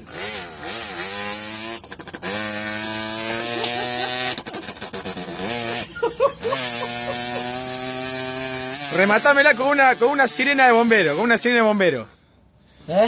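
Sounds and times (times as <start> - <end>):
boy imitating moped engine: 0.0 - 10.9.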